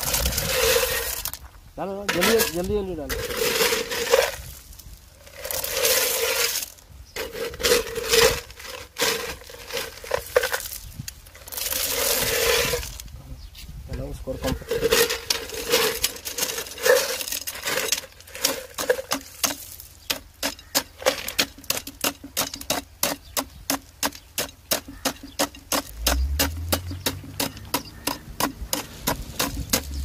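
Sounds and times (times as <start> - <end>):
steel rod clacking on stones: 2.0 - 13.2, 14.4 - 30.0.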